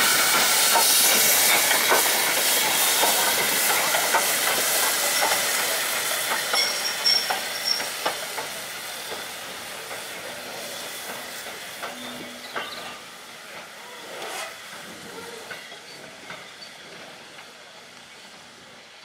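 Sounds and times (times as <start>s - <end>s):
steam locomotive hiss: 0.0s - 19.0s
train wheels clicking on rails: 0.0s - 19.0s.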